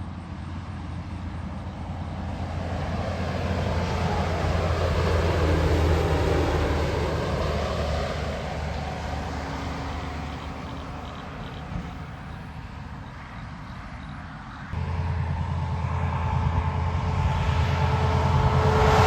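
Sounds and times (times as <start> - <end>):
heavy truck engine passing: 0.0 - 13.7, 14.6 - 19.0
low engine drone: 0.0 - 19.0.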